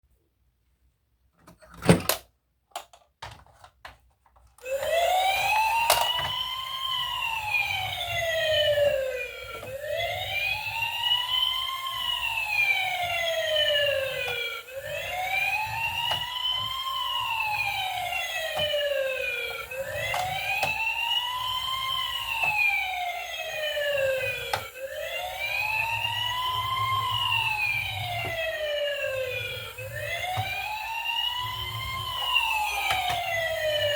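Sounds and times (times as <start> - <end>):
wailing siren: 4.6 - 33.9.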